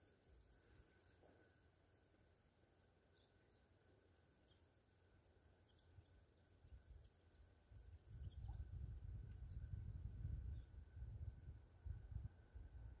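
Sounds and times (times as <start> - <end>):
distant bird chirps: 0.0 - 11.0.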